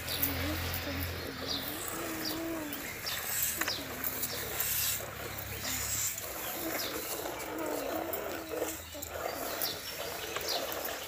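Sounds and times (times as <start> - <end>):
bird cooing: 0.1 - 11.0.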